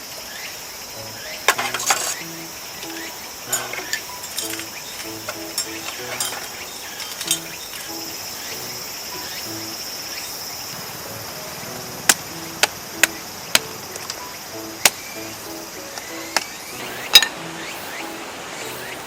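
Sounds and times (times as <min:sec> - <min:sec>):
insects chirring: 0:00.0 - 0:19.0
soft background music: 0:00.9 - 0:10.2, 0:10.8 - 0:19.0.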